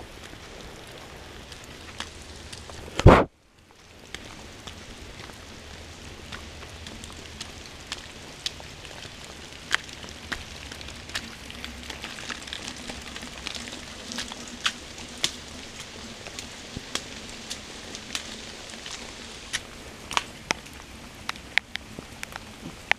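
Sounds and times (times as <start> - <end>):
steady rain hiss: 0.0 - 22.9.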